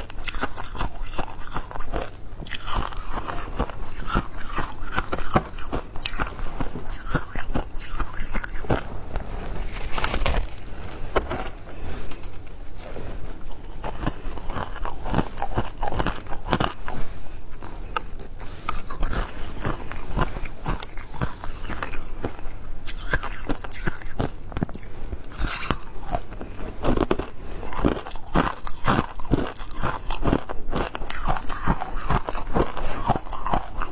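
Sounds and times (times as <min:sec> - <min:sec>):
ice being chewed: 0:00.0 - 0:33.9.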